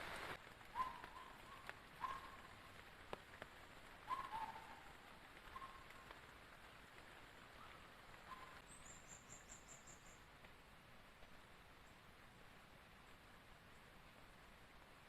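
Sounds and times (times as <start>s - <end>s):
soft rain hiss: 0.0s - 15.0s.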